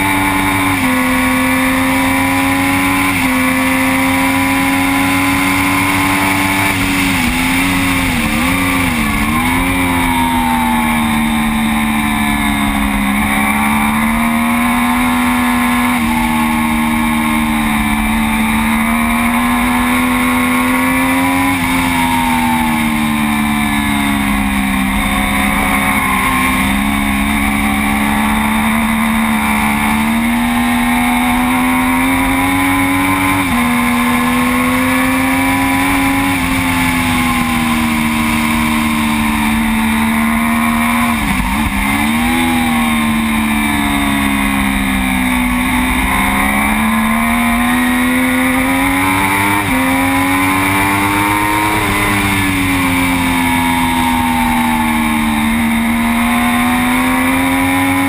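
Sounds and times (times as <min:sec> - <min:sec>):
racing motorcycle engine: 0:00.0 - 0:58.0.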